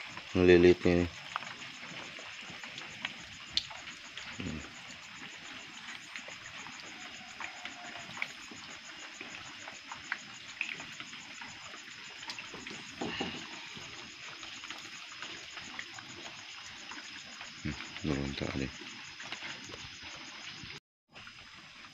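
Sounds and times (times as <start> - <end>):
high insect trill: 0.0 - 21.9
light rain pattering: 0.0 - 21.9
small drips and clicks: 0.0 - 21.9.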